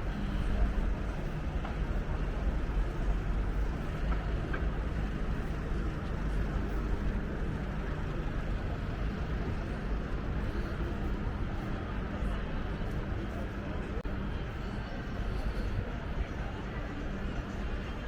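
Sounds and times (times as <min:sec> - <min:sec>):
faint constant hum: 0:00.0 - 0:18.0
low rumble of city traffic: 0:00.0 - 0:18.0.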